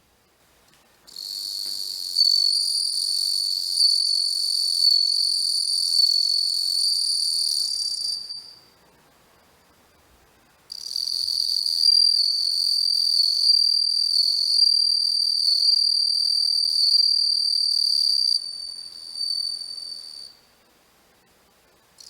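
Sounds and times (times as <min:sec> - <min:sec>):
cricket high-pitched trill: 0:01.1 - 0:08.8, 0:10.4 - 0:20.5.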